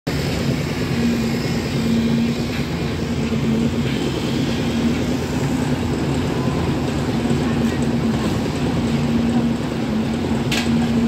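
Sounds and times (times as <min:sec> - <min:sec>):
concrete pump engine drone: 0:00.1 - 0:11.0.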